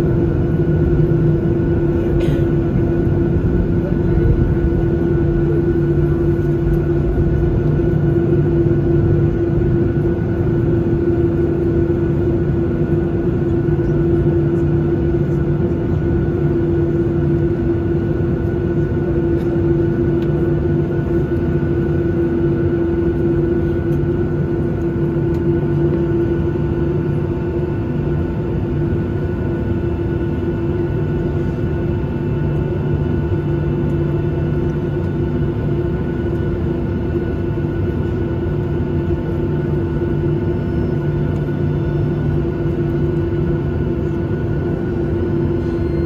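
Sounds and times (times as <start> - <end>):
airplane cabin rumble: 0.0 - 46.0
droning hum: 0.0 - 46.0.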